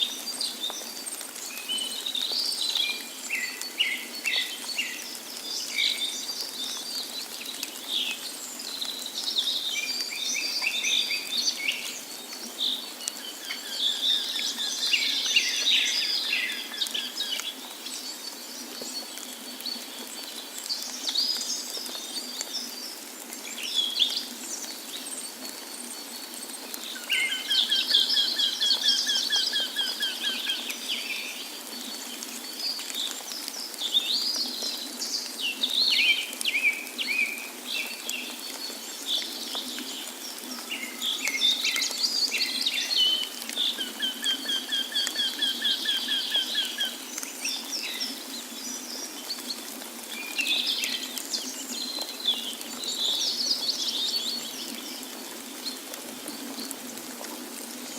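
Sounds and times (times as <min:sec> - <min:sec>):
birds singing and calling: 0:00.0 - 0:56.9.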